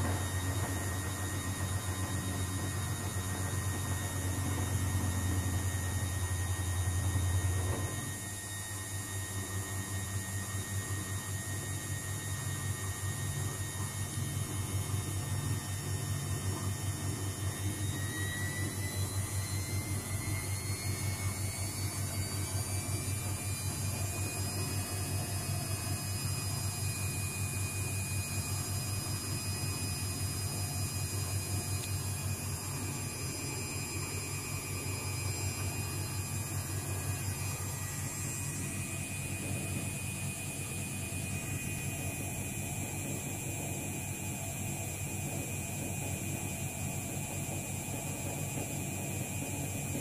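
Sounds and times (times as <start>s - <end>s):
washing machine motor whine: 0.0s - 50.0s
washing machine pulsing hum: 0.0s - 50.0s.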